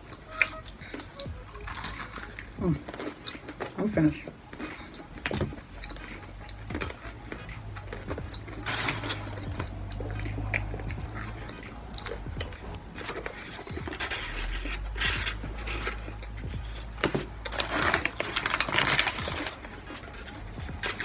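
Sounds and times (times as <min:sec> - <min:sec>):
chewing and mouth clicks: 0:00.0 - 0:21.0
paper wrapping rustling: 0:00.0 - 0:21.0
steady low hum: 0:00.0 - 0:21.0.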